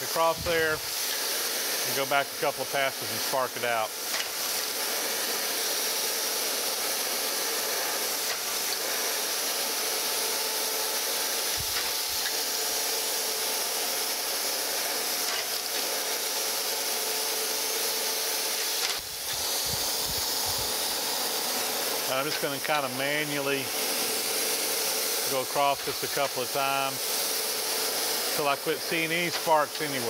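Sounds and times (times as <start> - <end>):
grinding wheel hiss: 0.0 - 30.0.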